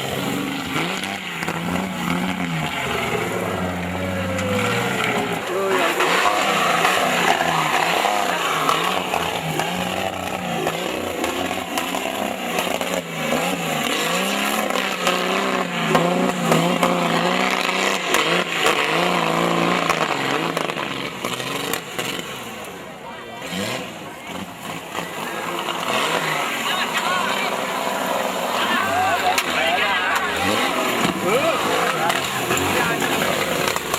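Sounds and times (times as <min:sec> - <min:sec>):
off-road vehicle engine revving: 0:00.0 - 0:33.9.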